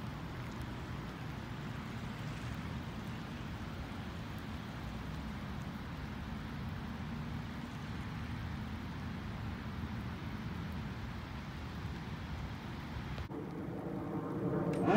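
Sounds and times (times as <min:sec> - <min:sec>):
distant traffic: 0:00.0 - 0:14.9
wind: 0:00.0 - 0:14.9.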